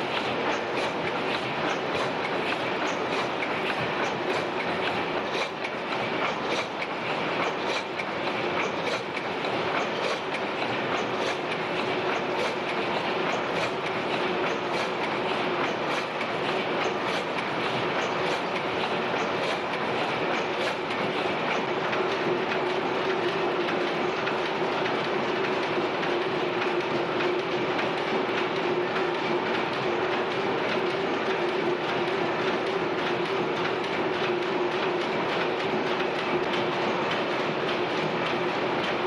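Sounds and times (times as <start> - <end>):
continuous hum: 0.0 - 39.0
pumping engines clattering: 0.0 - 39.0.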